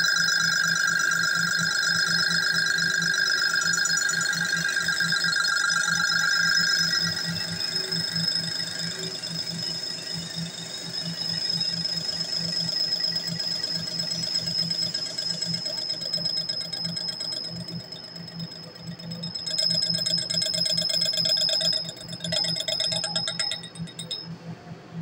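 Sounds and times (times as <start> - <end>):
metal lathe whine: 0.0 - 24.3.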